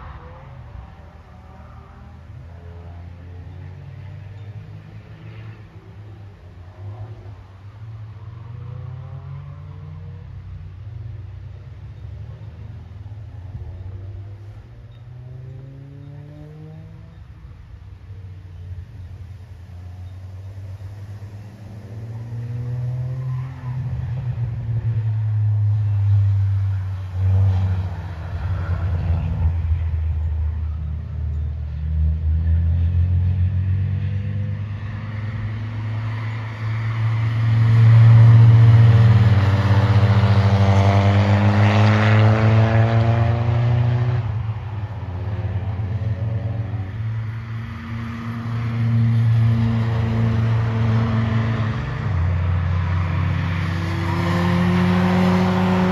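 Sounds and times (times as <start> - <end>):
race car engines accelerating: 0.0 - 55.9.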